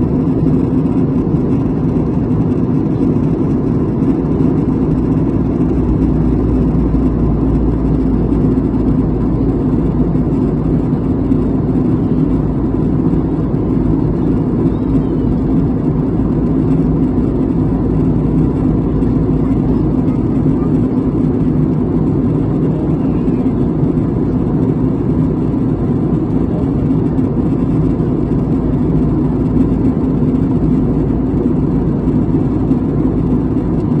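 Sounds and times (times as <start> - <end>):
faint constant tones: 0.0 - 34.0
low mechanical rumble: 0.0 - 34.0.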